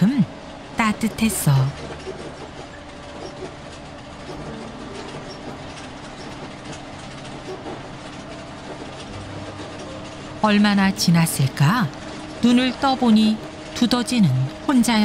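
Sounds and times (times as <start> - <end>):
moving vehicle rumbling: 0.0 - 15.0.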